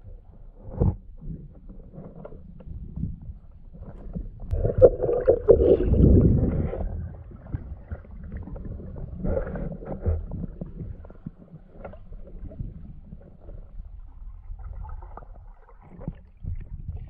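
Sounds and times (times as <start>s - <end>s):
underwater water rumble and gurgling: 0.0s - 17.0s.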